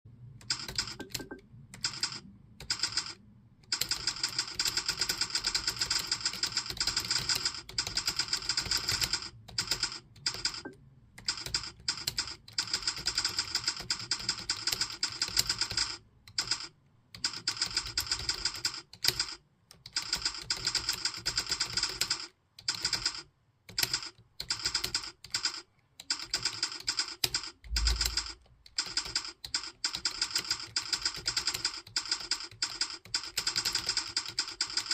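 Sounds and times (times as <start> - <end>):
fast typing on keyboard: 0.4 - 34.9.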